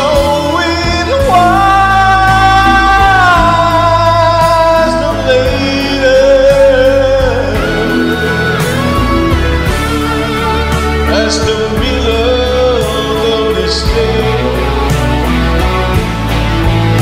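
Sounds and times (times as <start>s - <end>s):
man singing a slow ballad: 0.0s - 16.0s
backing track: 0.0s - 17.0s.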